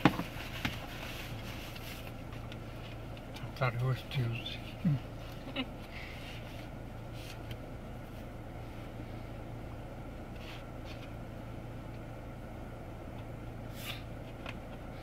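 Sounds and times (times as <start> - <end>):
car cabin hum: 0.0 - 15.0.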